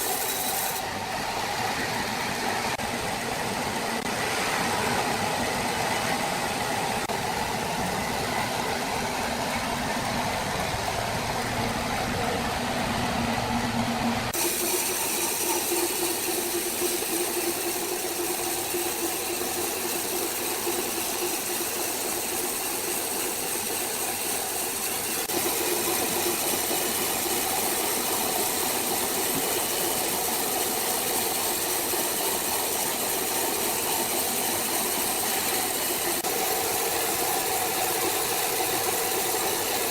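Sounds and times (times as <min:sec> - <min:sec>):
saw machinery droning: 0:00.0 - 0:39.9.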